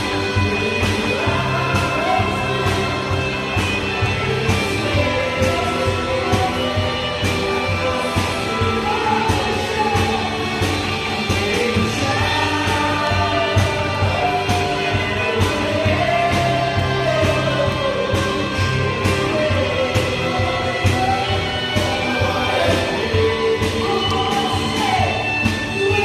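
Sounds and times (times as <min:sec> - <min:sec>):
man singing into a microphone: 0:00.0 - 0:26.0
steady drum beat: 0:00.0 - 0:26.0
worship band playing: 0:00.0 - 0:26.0.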